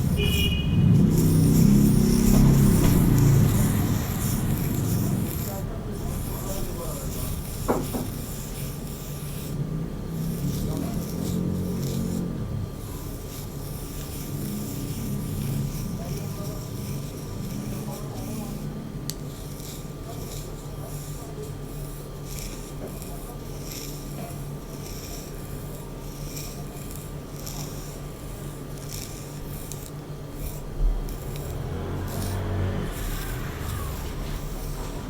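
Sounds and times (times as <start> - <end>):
hairbrush brushing hair: 0.0 - 9.6, 10.2 - 35.0.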